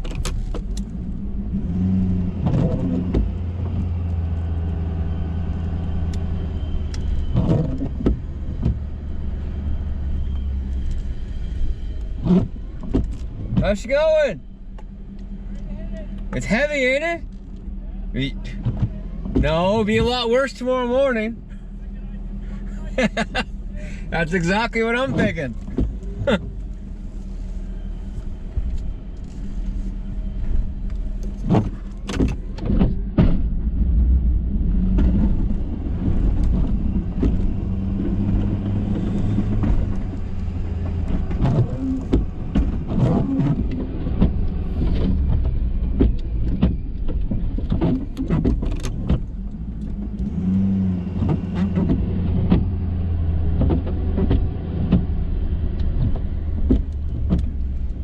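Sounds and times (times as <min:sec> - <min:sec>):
pickup truck engine hum: 0:00.0 - 0:58.0.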